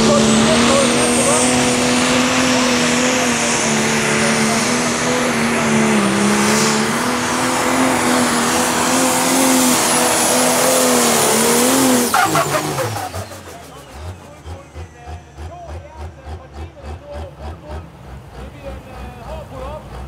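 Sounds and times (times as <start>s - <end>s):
diesel tractor engine under load: 0.0s - 20.0s.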